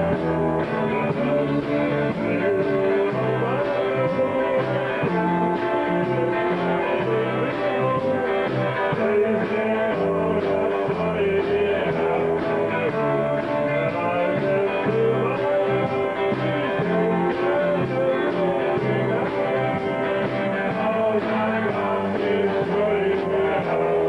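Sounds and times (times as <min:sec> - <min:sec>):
man singing: 0:00.0 - 0:24.0
rock band playing electric guitars: 0:00.0 - 0:24.0
steady drum beat: 0:00.0 - 0:24.0.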